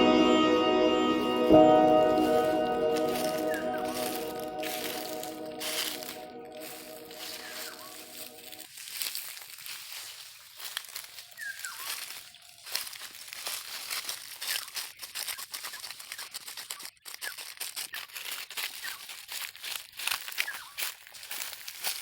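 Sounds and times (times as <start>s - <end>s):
dry leaves crackling and rustling: 0.2s - 22.0s.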